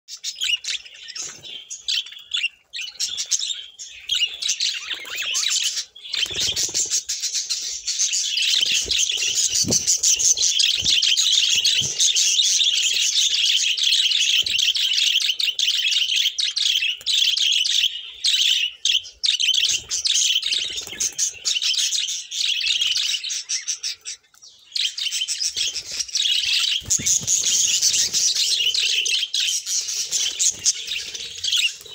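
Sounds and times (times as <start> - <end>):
budgerigars chattering: 0.1 - 31.9.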